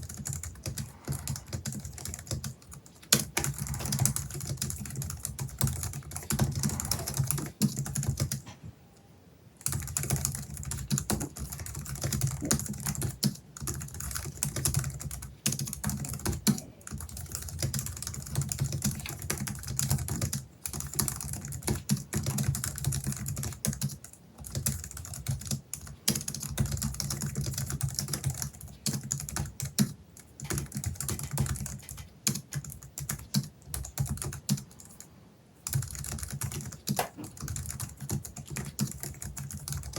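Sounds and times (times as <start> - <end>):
fast typing on keyboard keys: 0.0 - 8.4, 9.6 - 35.0, 35.6 - 39.9.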